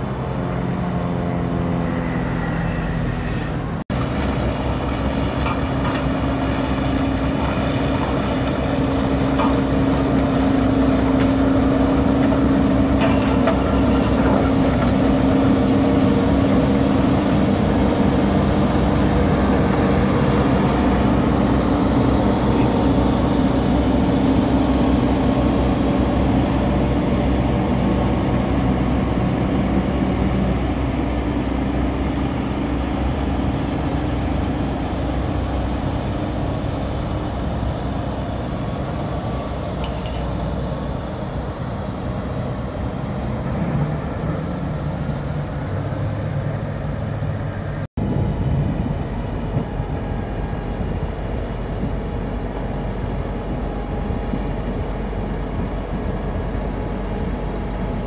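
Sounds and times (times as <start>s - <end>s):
harvester running: 0.0s - 58.0s
heavy diesel engine running: 0.0s - 58.0s.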